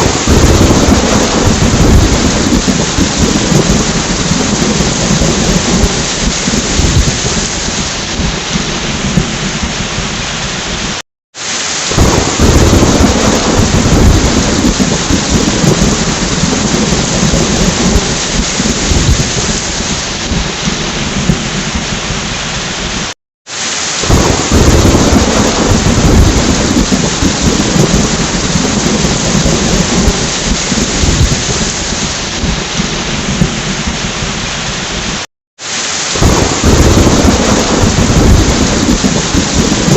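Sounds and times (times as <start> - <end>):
rolling thunder: 0.0 - 11.0, 11.9 - 23.1, 24.0 - 35.2, 36.2 - 39.9
heavy rain: 0.0 - 39.9.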